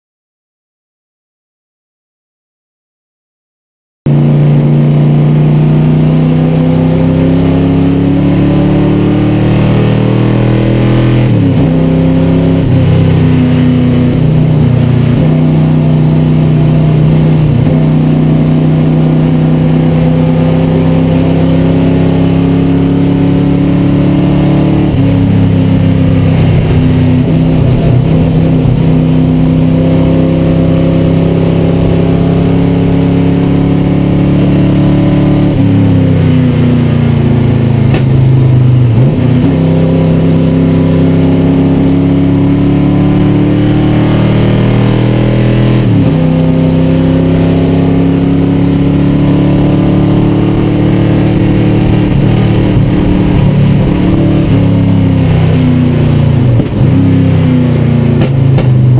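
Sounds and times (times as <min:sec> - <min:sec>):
car engine running hard: 0:04.1 - 0:58.9.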